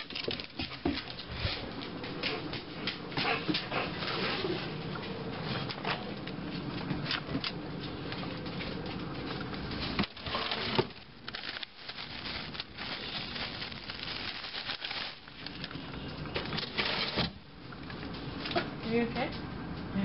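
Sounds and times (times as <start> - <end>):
plastic bags rustling: 0.0 - 2.0, 4.0 - 19.0.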